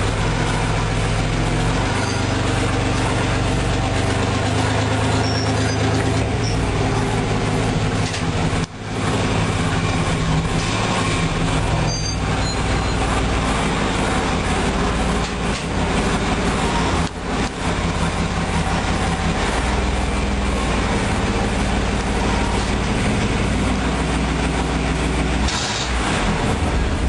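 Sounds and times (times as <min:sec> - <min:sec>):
van engine warming up: 0:00.0 - 0:27.0.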